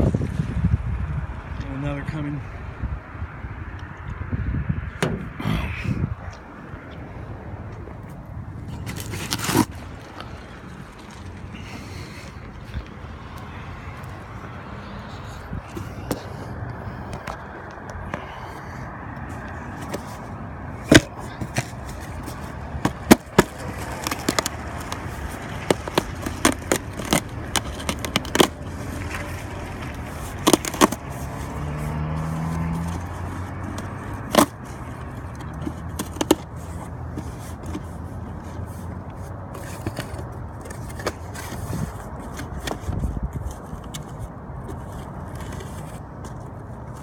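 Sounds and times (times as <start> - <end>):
car passing on road: 0.0 - 47.0.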